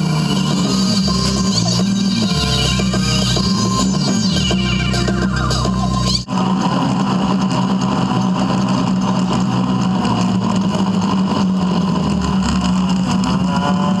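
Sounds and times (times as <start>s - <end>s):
vehicle engine running steadily: 0.0s - 14.0s.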